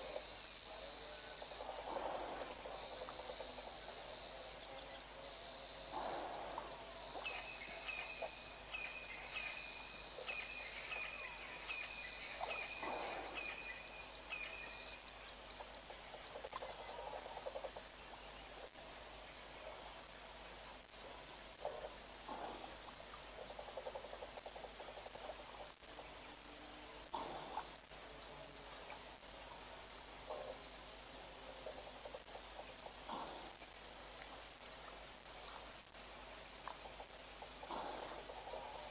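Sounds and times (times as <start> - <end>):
insects chirping in a steady pulse: 0.0 - 38.9.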